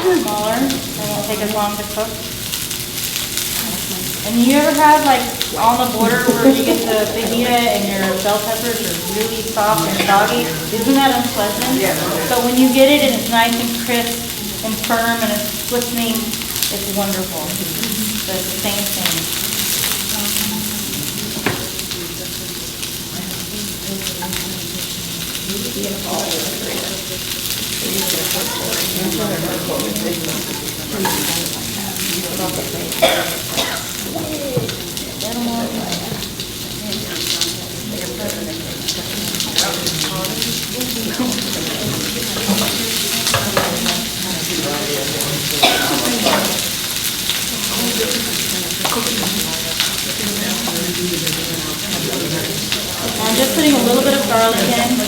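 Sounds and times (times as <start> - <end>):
vegetables sizzling in a hot pan: 0.0 - 55.0.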